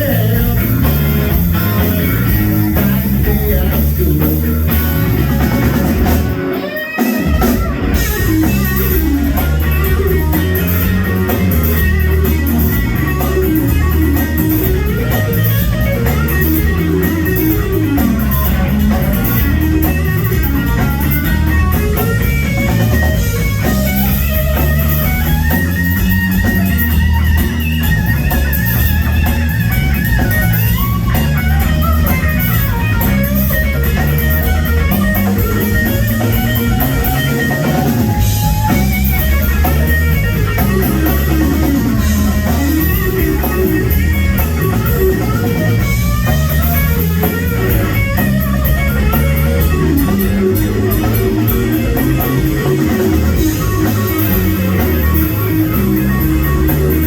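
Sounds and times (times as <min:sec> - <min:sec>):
bass guitar: 0:00.0 - 0:57.0
drum kit: 0:00.0 - 0:57.0
electric guitar lead with bent notes: 0:00.0 - 0:57.0.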